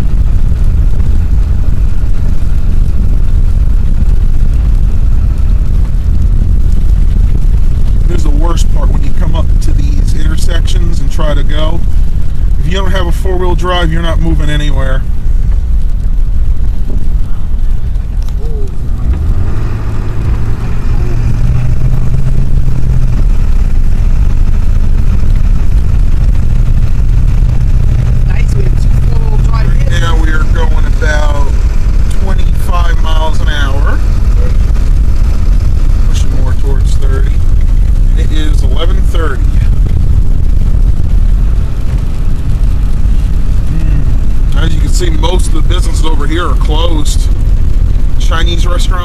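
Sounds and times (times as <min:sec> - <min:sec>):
vehicle rumble on icy road: 0:00.0 - 0:49.0.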